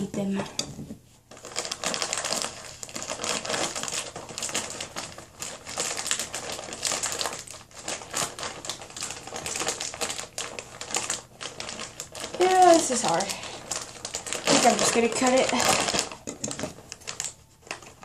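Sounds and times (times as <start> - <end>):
plastic mailer bag crinkling: 1.3 - 18.0.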